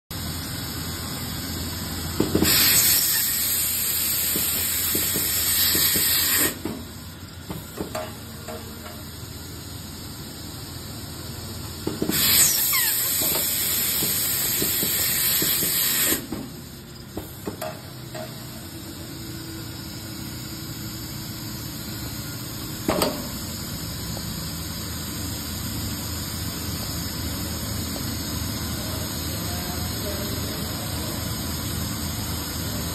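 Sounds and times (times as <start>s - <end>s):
machine hissing air: 0.2s - 32.9s.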